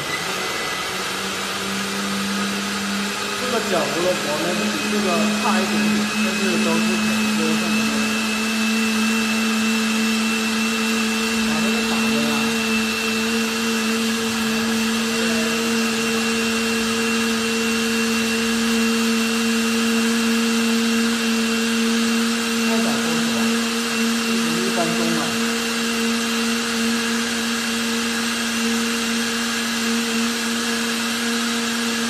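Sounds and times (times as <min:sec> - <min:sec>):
blender motor whining: 0:00.0 - 0:32.0.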